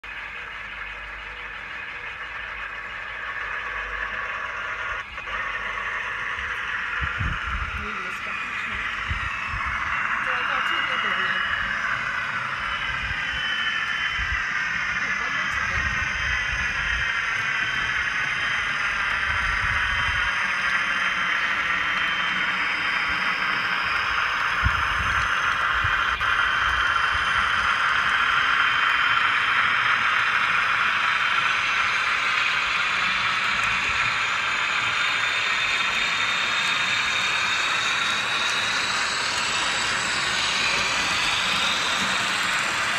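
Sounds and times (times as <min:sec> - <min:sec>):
model train running on track: 0:00.0 - 0:42.9.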